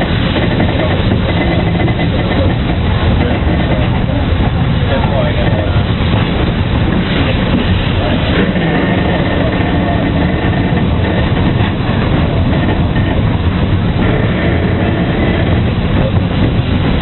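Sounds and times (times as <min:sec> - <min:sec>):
steam locomotive running noise: 0:00.0 - 0:17.0.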